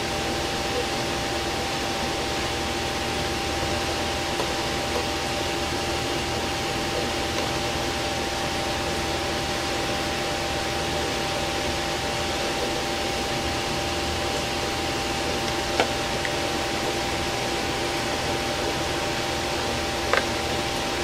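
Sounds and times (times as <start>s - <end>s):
constant hum: 0.0s - 21.0s
fan whirring: 0.0s - 21.0s.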